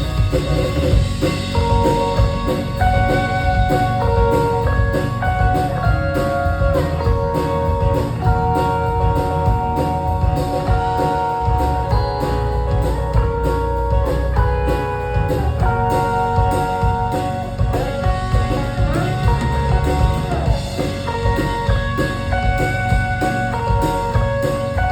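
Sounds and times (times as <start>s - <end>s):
bass: 0.0s - 24.9s
drum beat: 0.0s - 24.9s
guitar chords: 0.0s - 24.9s.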